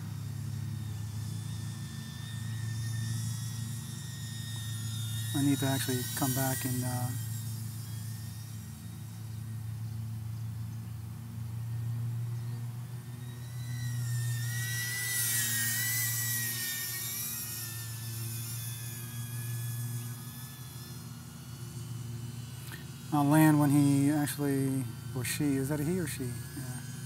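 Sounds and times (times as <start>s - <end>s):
drone propellers whining: 0.0s - 27.0s
steady low hum: 0.0s - 27.0s.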